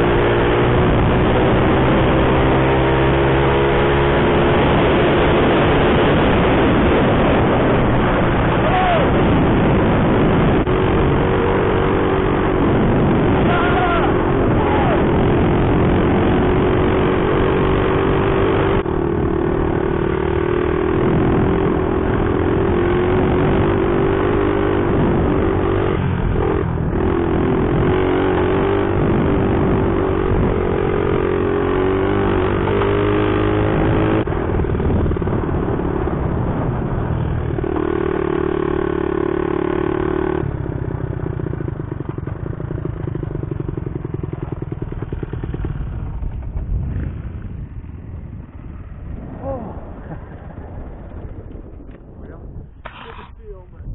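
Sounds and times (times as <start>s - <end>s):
mini bike engine running: 0.0s - 51.9s, 52.8s - 53.6s.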